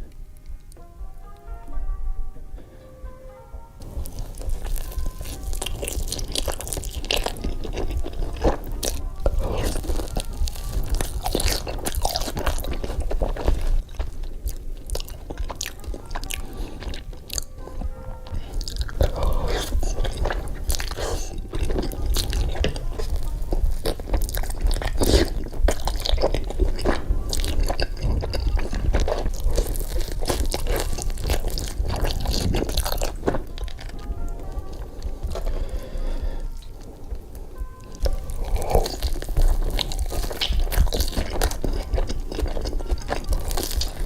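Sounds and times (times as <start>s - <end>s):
background music: 0.0s - 44.0s
person chewing crunchy food: 3.8s - 44.0s.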